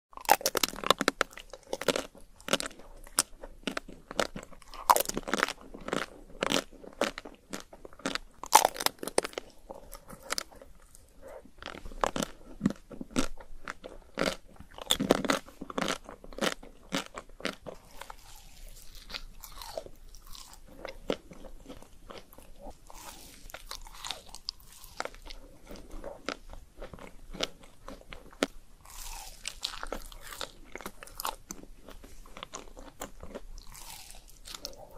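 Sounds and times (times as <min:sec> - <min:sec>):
chocolate coating crunching: 0:00.2 - 0:34.9.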